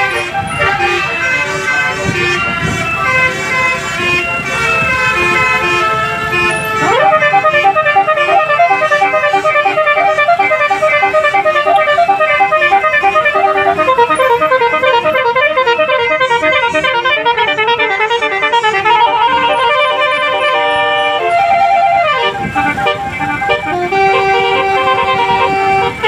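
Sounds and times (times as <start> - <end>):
bus horn playing fast melody: 0.0 - 26.0.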